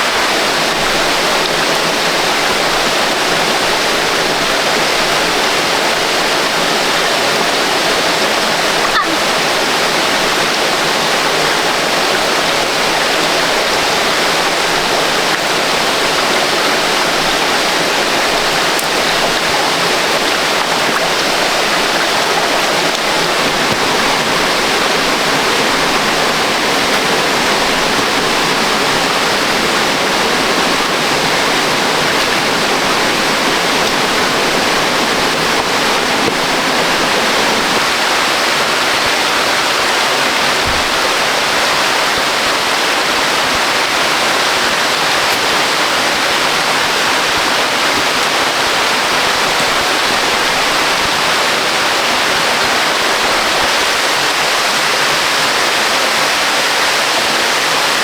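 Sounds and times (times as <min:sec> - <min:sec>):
water rushing over rapids: 0:00.0 - 0:58.0.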